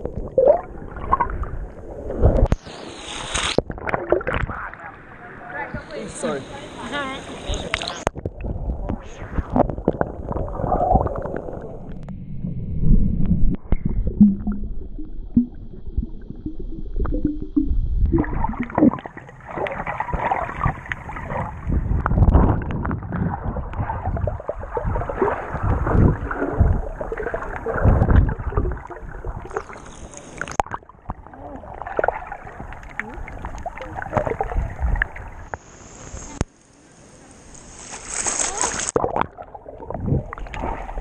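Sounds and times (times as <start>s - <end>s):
muffled underwater bubbling: 0.0s - 2.9s, 3.5s - 5.2s, 7.3s - 35.6s, 38.7s - 41.0s.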